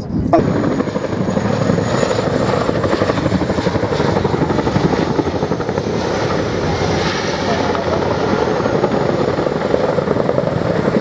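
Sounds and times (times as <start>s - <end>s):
helicopter rotors beating: 0.0s - 11.0s.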